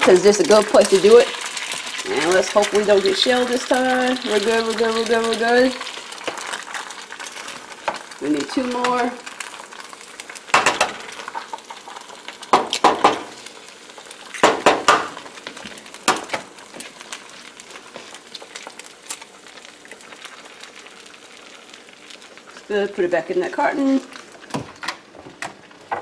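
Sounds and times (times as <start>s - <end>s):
eggs cracking on skillet: 0.0s - 26.0s
onions sizzling in pan: 0.0s - 26.0s.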